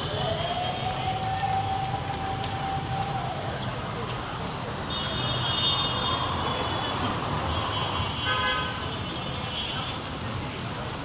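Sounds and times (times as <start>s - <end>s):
heavy rain on a street: 0.0s - 11.0s
traffic: 0.0s - 11.0s.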